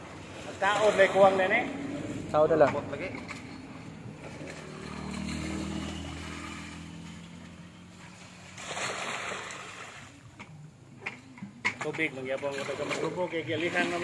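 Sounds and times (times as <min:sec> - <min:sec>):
passing motor vehicle hum: 0:00.0 - 0:11.6
water splashing from bucket: 0:00.1 - 0:10.2, 0:11.9 - 0:14.0.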